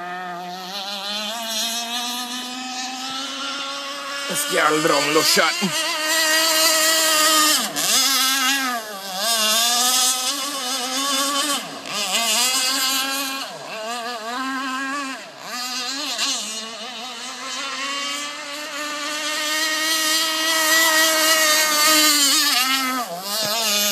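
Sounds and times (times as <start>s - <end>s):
model boat motor whining: 0.0s - 23.9s.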